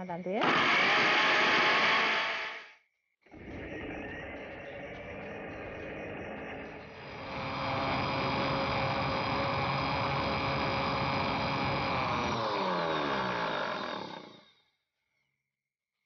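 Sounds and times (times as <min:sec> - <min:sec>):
blender motor whining: 0:00.4 - 0:02.7, 0:03.4 - 0:14.7
motor winding down: 0:00.4 - 0:14.6.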